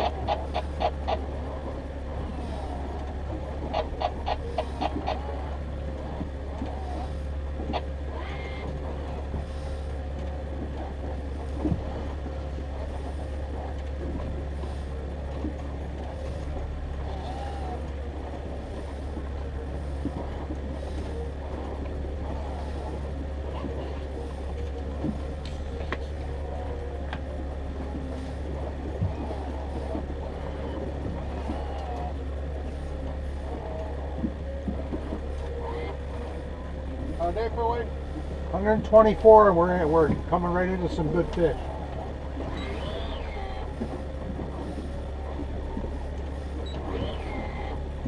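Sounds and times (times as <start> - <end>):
boat motor droning: 0.0 - 48.0.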